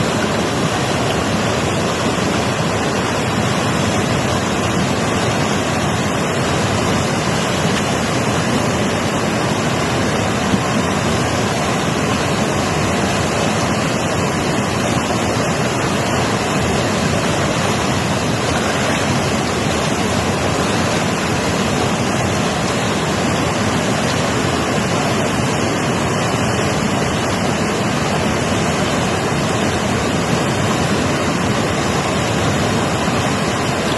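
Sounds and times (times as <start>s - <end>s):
mountain river rushing: 0.0s - 33.9s.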